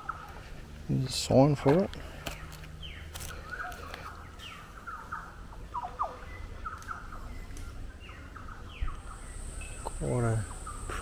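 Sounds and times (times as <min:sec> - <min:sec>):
birds chirping and whistling: 0:02.2 - 0:11.0.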